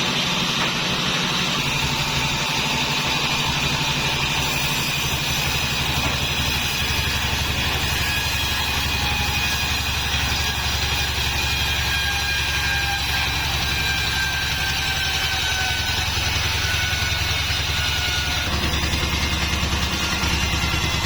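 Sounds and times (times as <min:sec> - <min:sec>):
sawmill engine running: 0:00.0 - 0:21.0.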